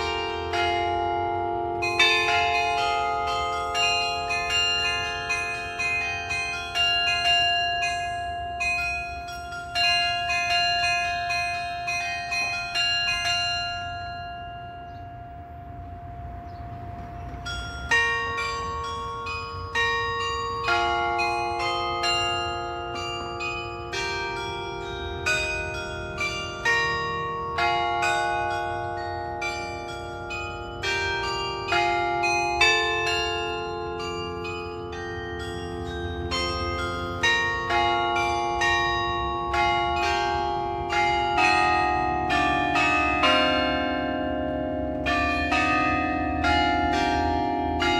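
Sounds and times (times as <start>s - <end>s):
carillon bells playing a melody: 0.0s - 47.9s.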